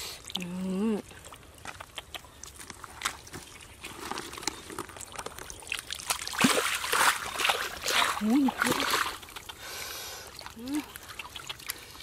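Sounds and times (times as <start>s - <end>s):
water trickling and dripping: 0.0s - 12.0s
splashing through shallow water: 0.2s - 12.0s.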